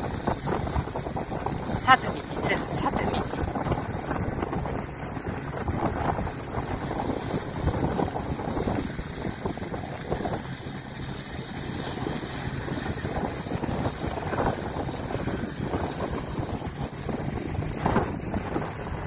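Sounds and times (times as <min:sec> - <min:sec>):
distant engine rumble: 0:00.0 - 0:19.0
wind buffeting microphone: 0:00.0 - 0:19.0.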